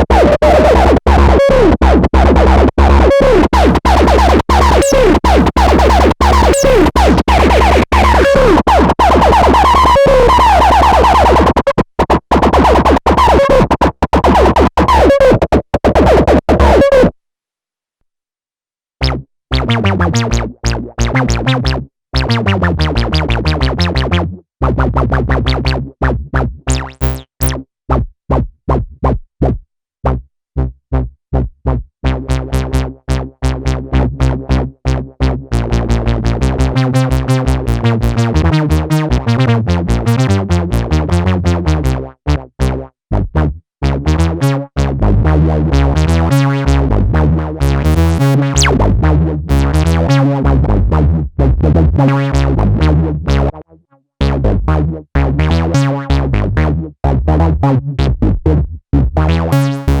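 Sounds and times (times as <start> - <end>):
synthesizer bass line: 0.0 - 17.1, 19.0 - 27.6, 31.7 - 60.0.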